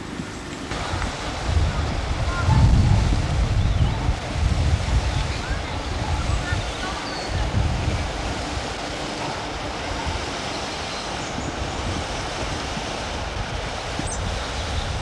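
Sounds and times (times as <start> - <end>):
river rushing over weir: 0.0 - 15.0
wind buffeting microphone: 0.0 - 15.0.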